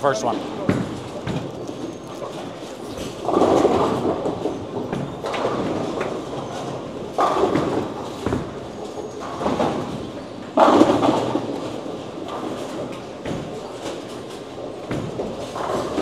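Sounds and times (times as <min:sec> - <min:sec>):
bowling balls rolling on wood: 0:00.0 - 0:16.0
pins crashing: 0:00.4 - 0:16.0.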